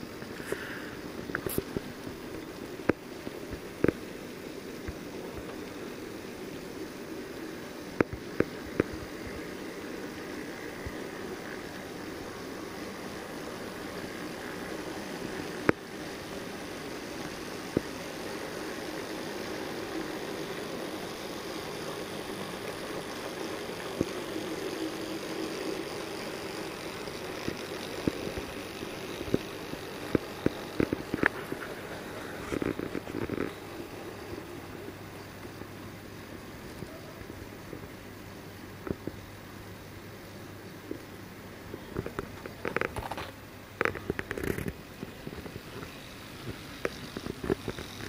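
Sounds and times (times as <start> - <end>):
model train whirring: 0.0 - 36.8, 42.0 - 48.0.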